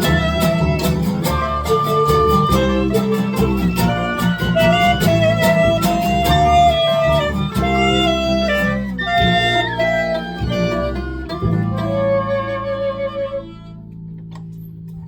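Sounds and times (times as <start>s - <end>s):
sliding held melody notes: 0.0s - 15.0s
strummed guitar rhythm: 0.0s - 15.0s.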